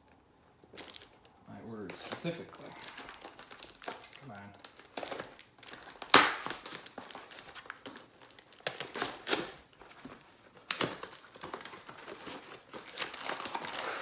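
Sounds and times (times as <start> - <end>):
packaging rustling and ripping: 0.7 - 14.0.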